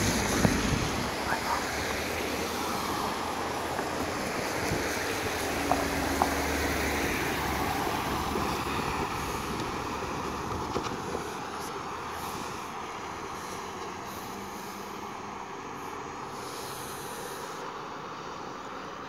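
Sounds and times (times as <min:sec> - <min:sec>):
car engines passing: 0:00.0 - 0:19.0
tyres hissing on wet road: 0:00.0 - 0:19.0.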